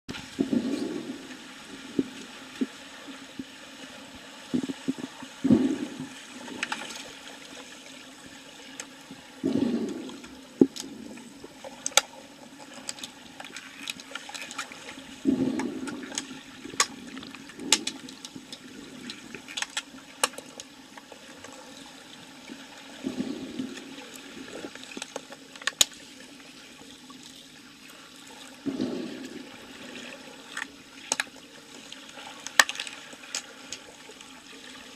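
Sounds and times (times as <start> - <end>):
muffled underwater rushing water: 0.1 - 34.9.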